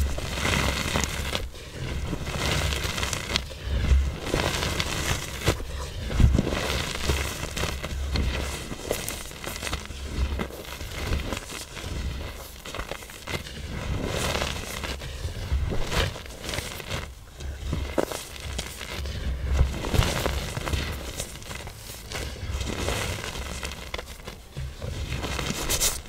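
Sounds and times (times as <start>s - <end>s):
powder blocks crunching: 0.0s - 26.0s.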